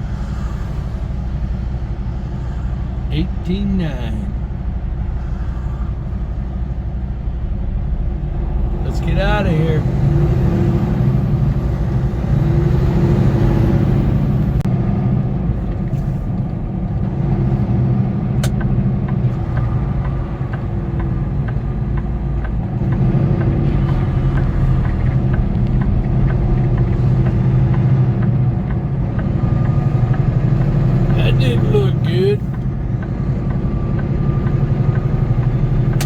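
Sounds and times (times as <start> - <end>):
diesel truck engine droning: 0.0 - 36.0.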